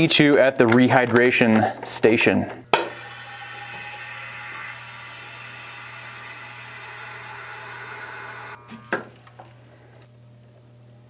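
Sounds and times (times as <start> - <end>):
vacuum sealer pump hum: 0.5 - 11.0.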